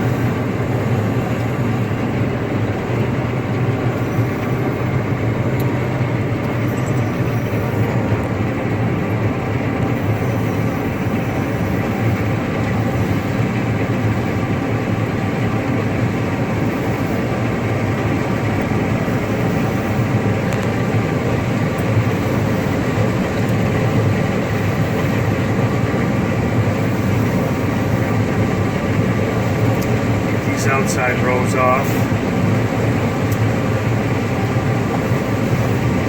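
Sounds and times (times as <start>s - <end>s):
combine harvester engine drone: 0.0s - 36.0s
faint steady whine: 0.0s - 36.0s.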